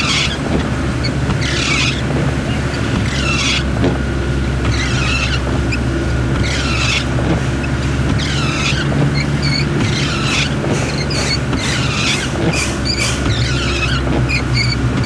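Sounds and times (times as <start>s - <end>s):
short high squeaks: 0.0s - 3.7s, 4.6s - 15.0s
vehicle engine humming: 0.0s - 15.0s.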